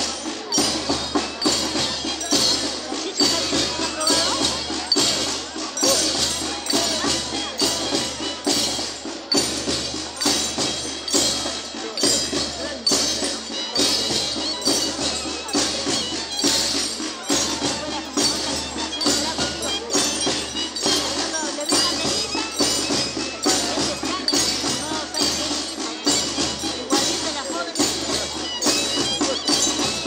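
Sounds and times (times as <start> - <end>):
drums and percussion beat: 0.0 - 30.0
band melody: 0.2 - 30.0.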